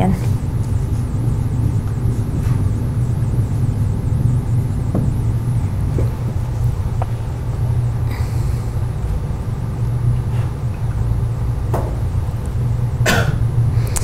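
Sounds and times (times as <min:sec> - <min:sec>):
low rumbling room hum: 0:00.0 - 0:14.0.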